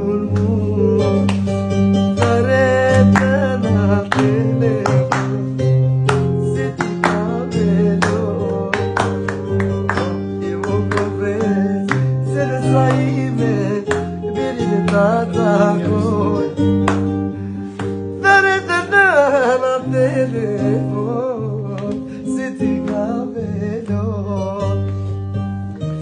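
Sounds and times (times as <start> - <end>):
held bass notes: 0.0 - 26.0
plucked string melody: 0.0 - 26.0.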